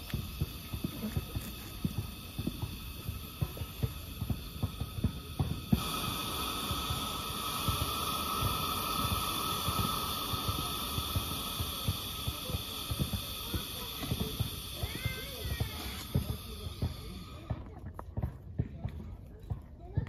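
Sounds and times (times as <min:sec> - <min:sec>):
thick soup bubbling: 0:00.0 - 0:18.1
camping stove burner hissing: 0:00.0 - 0:19.0.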